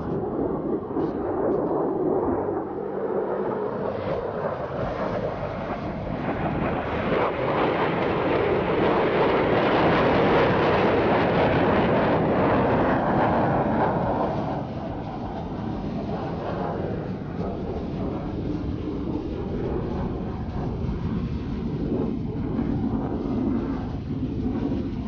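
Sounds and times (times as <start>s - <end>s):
jet engines roaring past: 0.0s - 25.0s.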